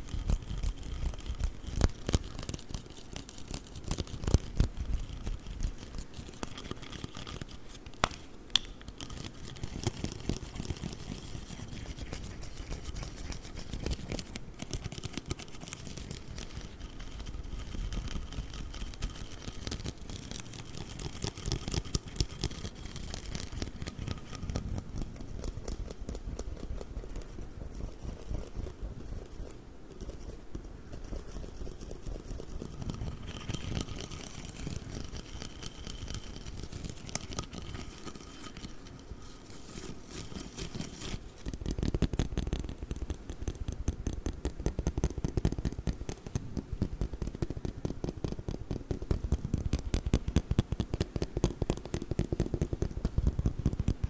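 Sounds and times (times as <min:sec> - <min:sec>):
tapping and scratching on a ruler: 0:00.0 - 0:54.0.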